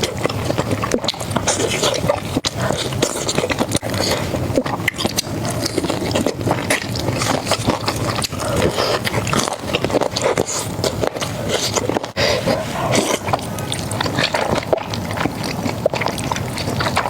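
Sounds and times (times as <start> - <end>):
chewing crispy fried food: 0.0 - 17.0.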